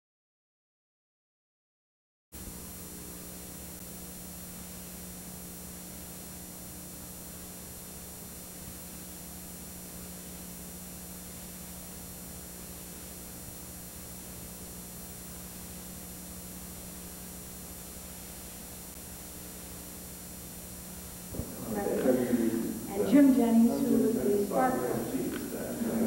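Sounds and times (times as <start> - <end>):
low electrical hum: 2.4 - 26.0
videotape hiss: 2.4 - 26.0.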